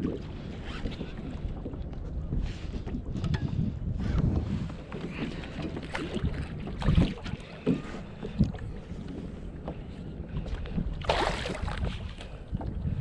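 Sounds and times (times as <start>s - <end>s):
water sloshing against hull: 0.0s - 13.0s
wind buffeting microphone: 0.0s - 13.0s.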